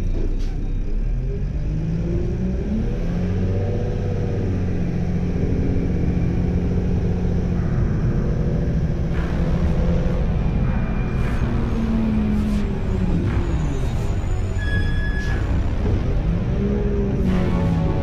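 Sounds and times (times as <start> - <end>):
truck diesel engine accelerating: 0.0 - 18.0.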